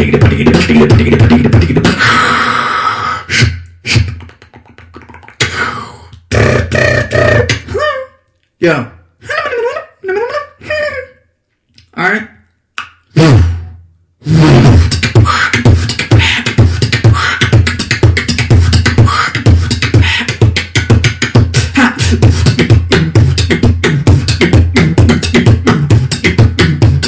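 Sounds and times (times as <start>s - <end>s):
person beatboxing: 0.0s - 8.1s, 13.1s - 27.0s.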